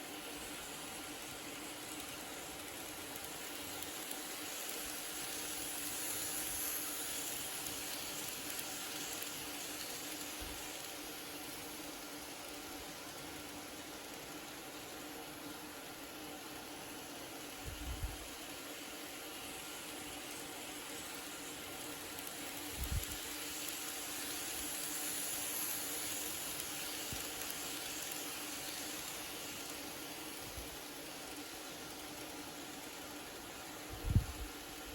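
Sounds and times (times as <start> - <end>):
model train motor whirring: 0.0 - 34.9.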